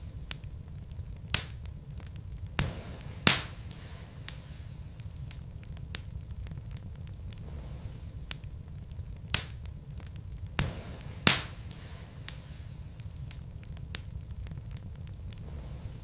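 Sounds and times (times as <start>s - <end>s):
fire popping: 0.0s - 16.0s
low rumble of burning logs: 0.0s - 16.0s.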